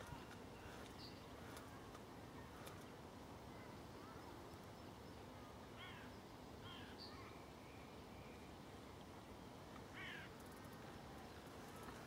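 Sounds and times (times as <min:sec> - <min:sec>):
faint bird calls: 0:00.0 - 0:08.5, 0:09.2 - 0:12.0.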